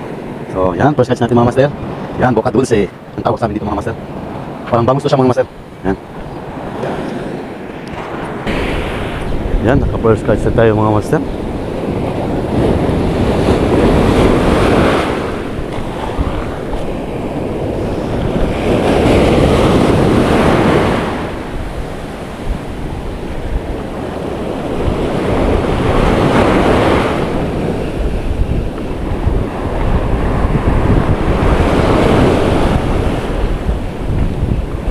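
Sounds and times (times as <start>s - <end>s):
ocean waves breaking on beach: 0.0s - 34.9s
wind on microphone: 0.0s - 34.9s.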